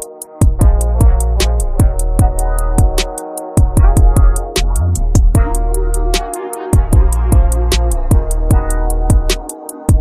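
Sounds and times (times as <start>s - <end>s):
fast-beat music with deep bass: 0.0s - 10.0s.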